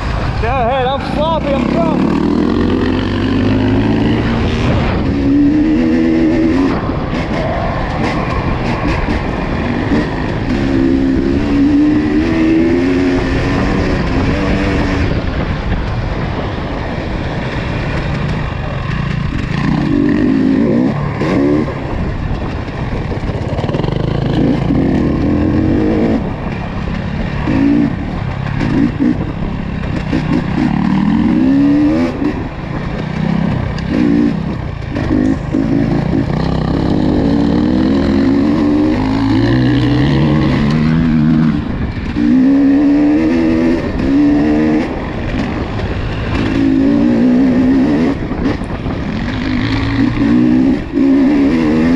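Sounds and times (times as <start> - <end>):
off-road vehicle engine revving: 0.0 - 15.6, 17.5 - 22.6, 23.4 - 51.9.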